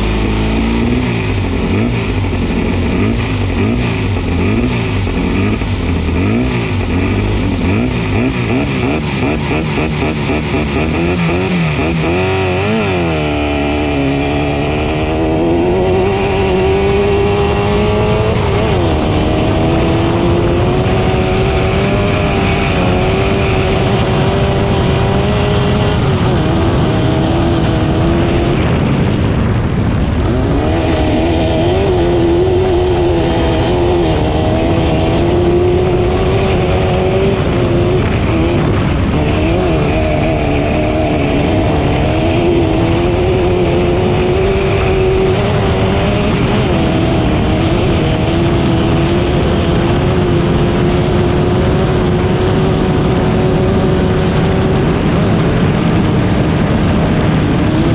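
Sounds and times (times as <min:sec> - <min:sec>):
race vehicle engine revving: 0:00.0 - 0:57.9.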